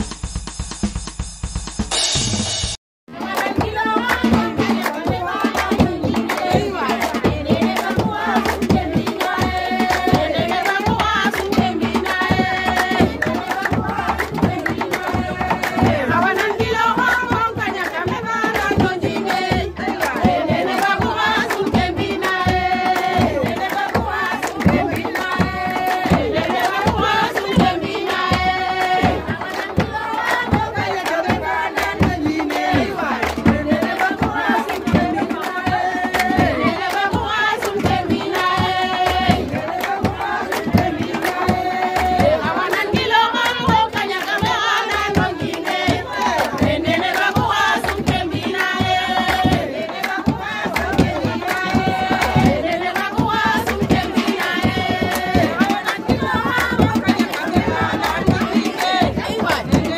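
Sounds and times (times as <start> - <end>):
fast hand-drum percussion: 0.0 - 59.9.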